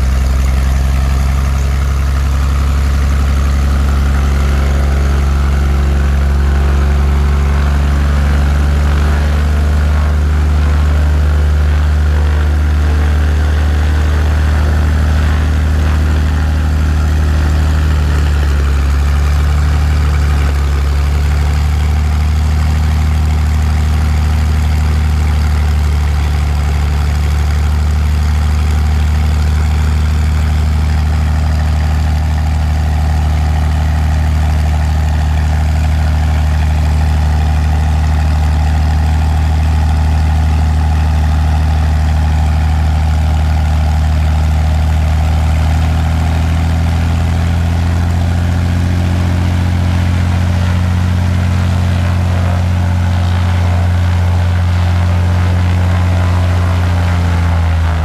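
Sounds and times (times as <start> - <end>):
aircraft engine running: 0.0 - 58.0.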